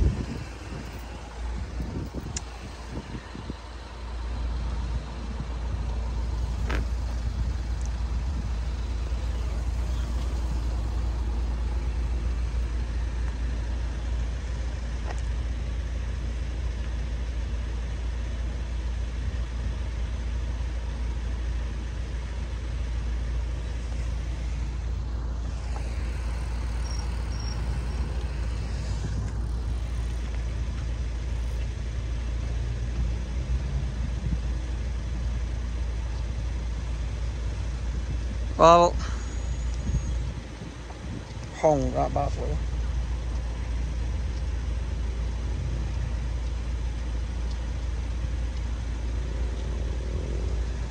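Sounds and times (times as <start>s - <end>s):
road traffic rumble: 0.0s - 50.9s.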